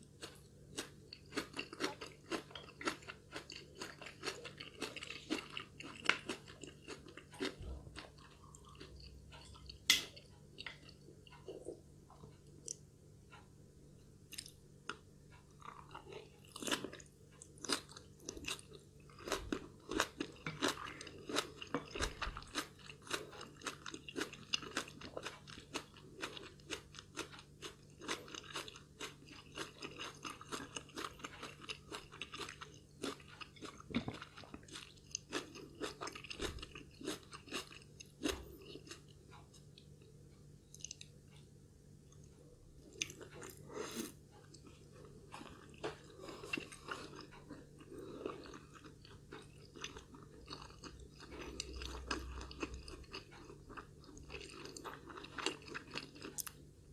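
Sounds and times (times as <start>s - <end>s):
person chewing crunchy food: 0.0s - 12.8s, 14.3s - 41.5s, 42.1s - 56.9s.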